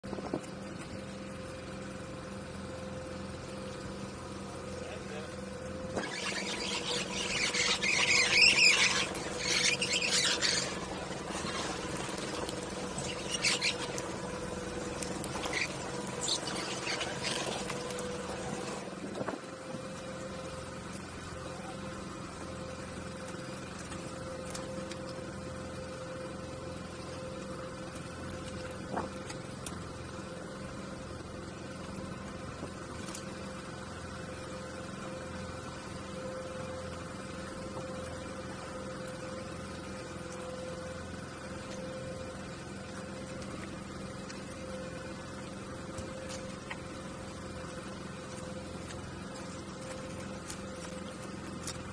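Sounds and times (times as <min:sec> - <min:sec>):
outboard motor idling: 0:00.0 - 0:51.9.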